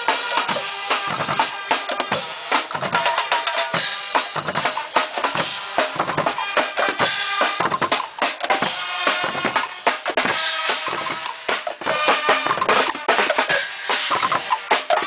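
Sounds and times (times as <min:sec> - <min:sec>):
bass drums beating: 0:00.0 - 0:15.0
snare drums beating: 0:00.0 - 0:15.0.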